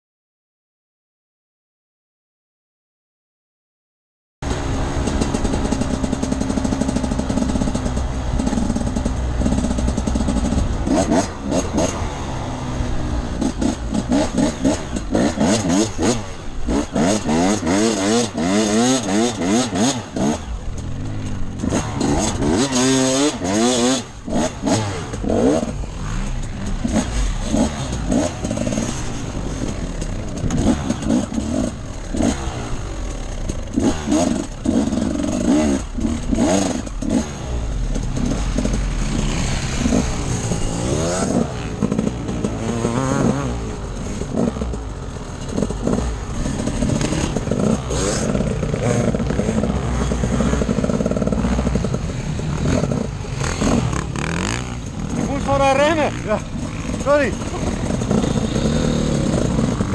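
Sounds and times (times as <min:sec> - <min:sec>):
motorcycle engine revving: 0:04.4 - 0:59.9.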